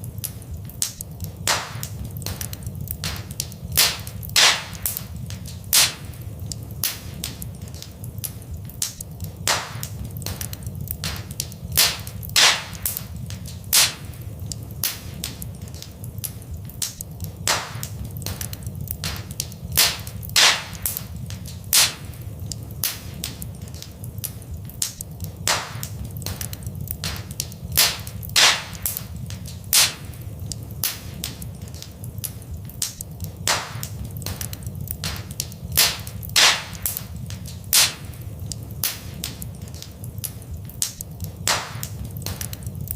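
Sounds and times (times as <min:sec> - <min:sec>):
steady low rumble: 0:00.0 - 0:42.9
wood fire crackling and popping: 0:00.0 - 0:42.9.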